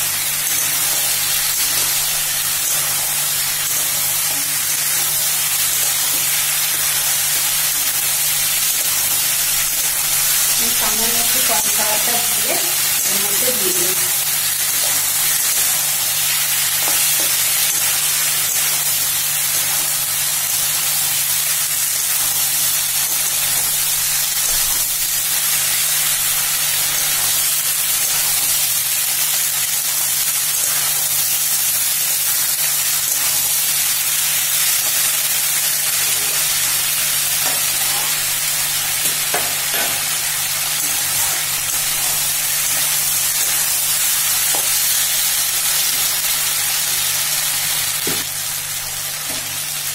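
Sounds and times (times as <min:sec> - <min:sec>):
food sizzling in a pan: 0:00.0 - 0:49.9.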